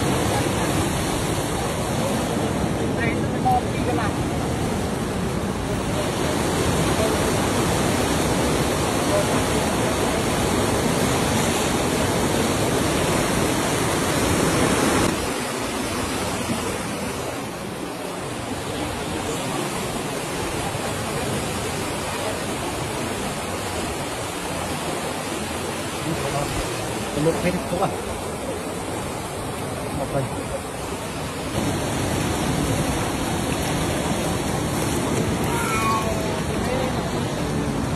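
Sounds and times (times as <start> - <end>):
canal water rushing: 0.0 - 37.9.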